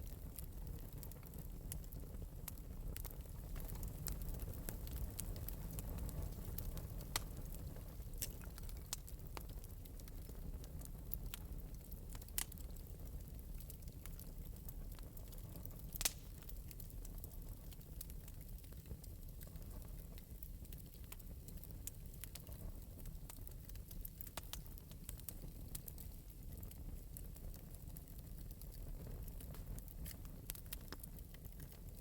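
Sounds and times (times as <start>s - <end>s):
fire crackles: 0.0s - 32.0s
wood fire rumbling: 0.0s - 32.0s.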